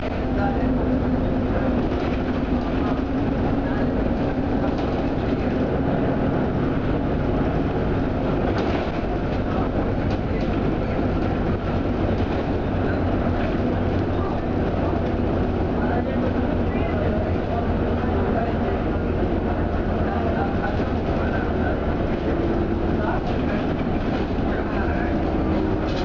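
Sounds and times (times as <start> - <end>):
bus engine hum: 0.0 - 26.0
light rattles of bus body: 0.0 - 26.0
road rumble: 0.0 - 26.0.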